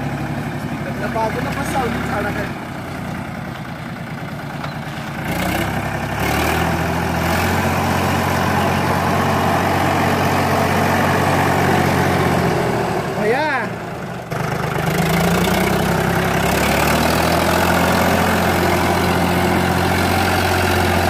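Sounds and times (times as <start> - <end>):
tractor diesel engine revving: 0.0 - 21.0.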